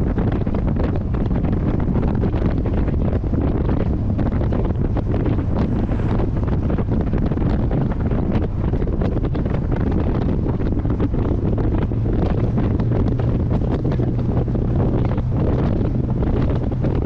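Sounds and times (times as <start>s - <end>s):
car engine droning: 0.0s - 17.0s
wind buffeting microphone: 0.0s - 17.0s.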